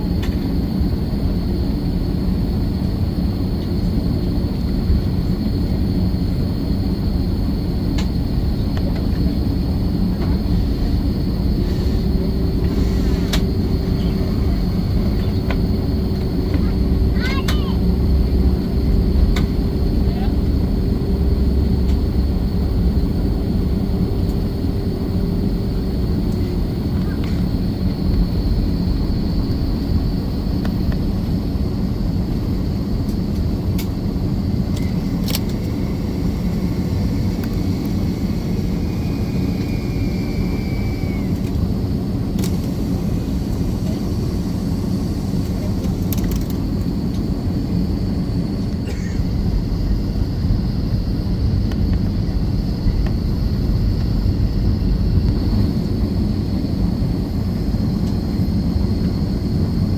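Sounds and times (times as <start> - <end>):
airliner cabin rumble: 0.0 - 59.9
faint high whine: 0.0 - 59.9.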